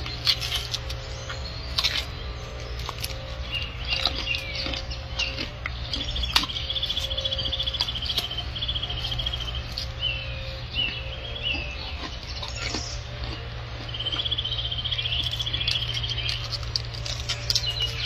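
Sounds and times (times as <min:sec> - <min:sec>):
gorilla chewing fruit: 0:00.0 - 0:18.0
small birds chirping: 0:00.0 - 0:18.0
steady low hum: 0:00.0 - 0:18.0.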